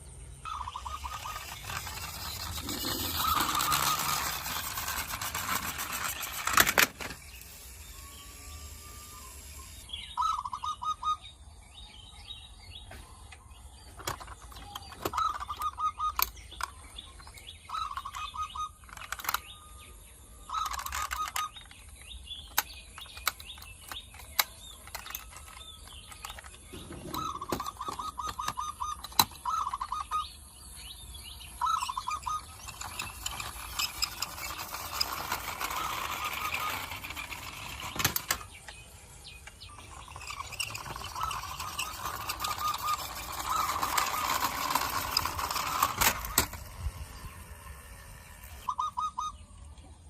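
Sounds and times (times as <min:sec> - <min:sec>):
bird chirping in rapid trills: 0:00.0 - 0:50.0.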